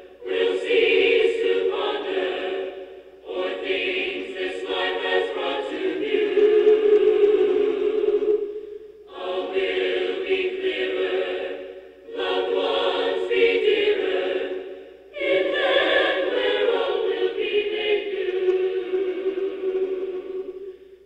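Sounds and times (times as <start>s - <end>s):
unaccompanied choir singing: 0.0s - 21.0s.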